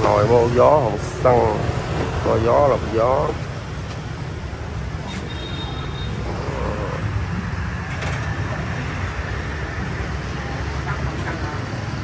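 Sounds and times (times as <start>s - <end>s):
motorbike traffic rumble: 0.0s - 12.0s.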